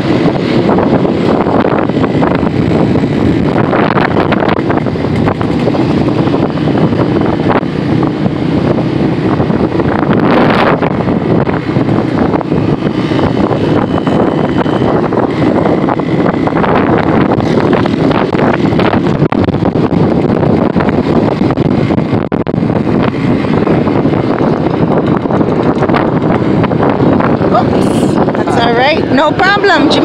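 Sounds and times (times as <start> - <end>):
motorbike running: 0.0 - 30.0
wind on microphone: 0.0 - 30.0.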